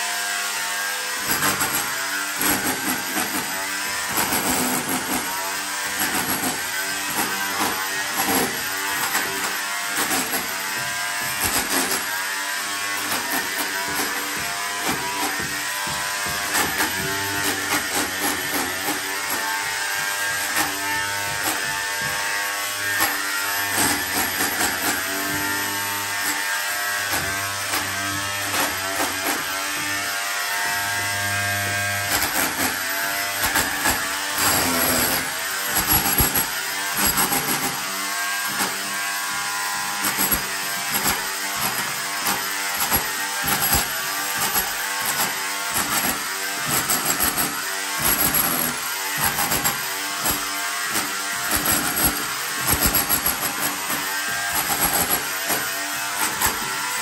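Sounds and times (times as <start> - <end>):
rotary hammer chiselling plaster: 0.0 - 57.0.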